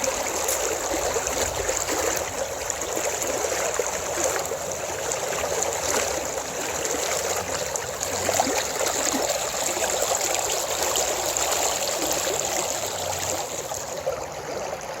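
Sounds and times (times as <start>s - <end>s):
stream of water trickling: 0.0s - 15.0s.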